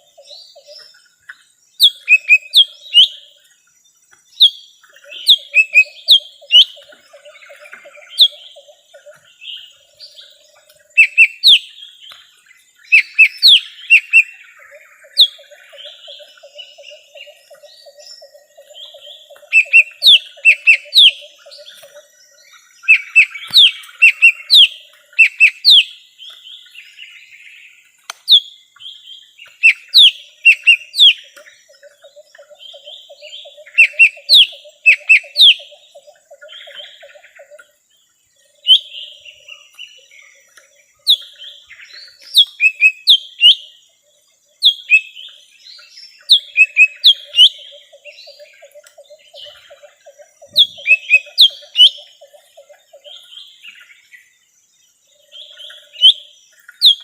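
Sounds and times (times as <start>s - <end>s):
bird singing whistled notes: 0.0s - 57.0s.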